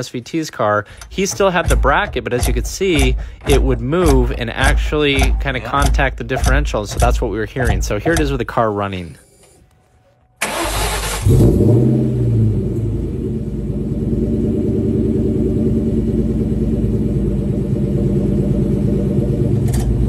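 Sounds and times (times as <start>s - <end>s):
car engine starting and idling: 0.0s - 8.6s, 10.4s - 20.0s.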